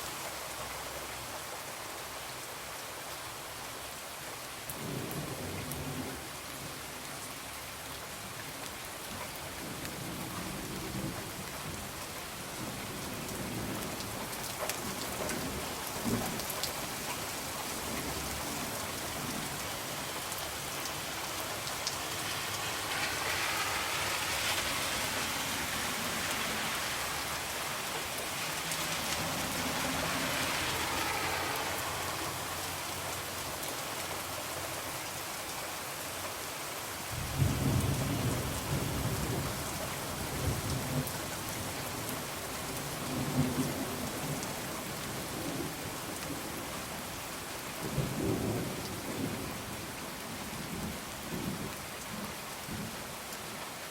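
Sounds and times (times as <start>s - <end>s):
rain falling on window: 4.5s - 53.9s.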